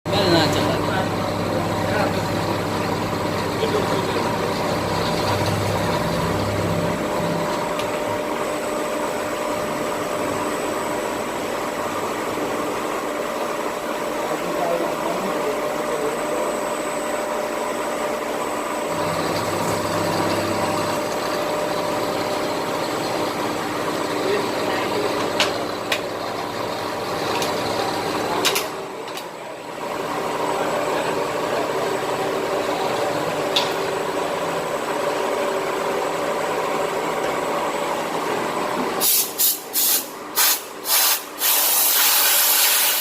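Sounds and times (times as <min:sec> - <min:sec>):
milling machine noise: 0:00.1 - 0:39.1.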